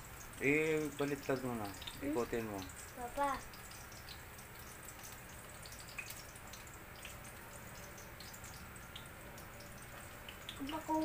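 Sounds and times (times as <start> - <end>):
hot dogs sizzling in oil: 0.0 - 11.0.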